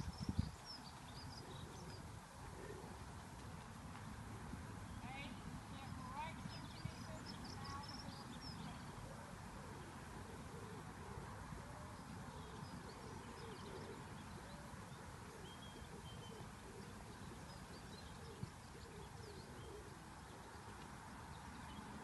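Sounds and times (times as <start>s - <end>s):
faint bird calls and chirps: 0.0s - 3.1s, 4.9s - 22.0s
outdoor background noise: 0.0s - 22.0s.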